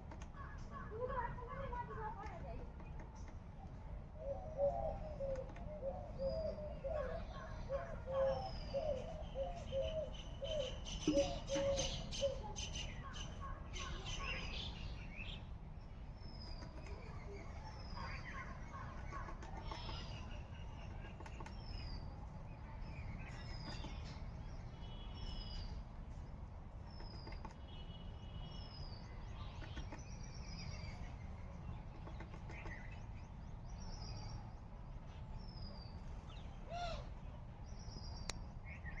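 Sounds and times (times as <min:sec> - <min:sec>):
birds chirping: 0:00.1 - 0:39.0.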